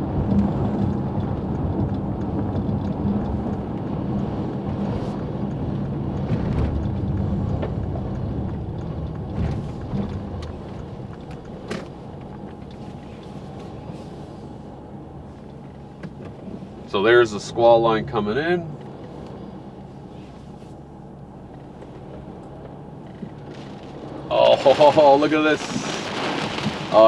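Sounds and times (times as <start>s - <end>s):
car engine and tyre hum: 0.0s - 27.0s.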